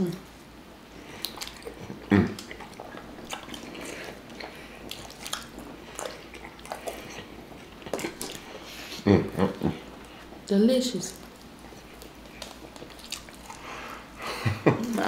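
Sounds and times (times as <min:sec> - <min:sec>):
close-miked chewing and smacking: 0:00.9 - 0:14.2.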